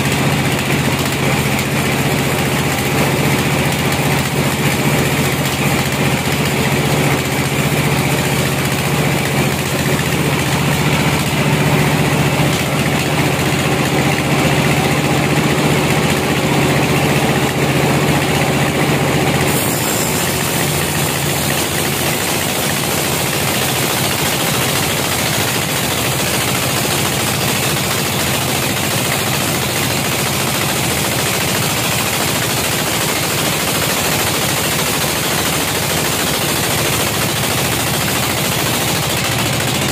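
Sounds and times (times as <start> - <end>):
sawmill motor drone: 0.0 - 39.9
bandsaw blade cutting log: 3.7 - 39.9.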